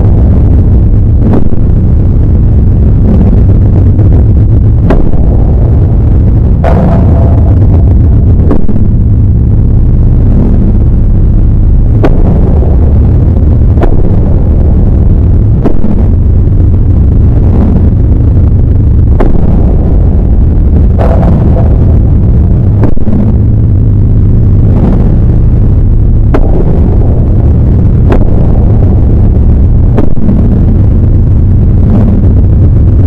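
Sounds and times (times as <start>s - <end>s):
distorted low rumble: 0.0s - 33.0s.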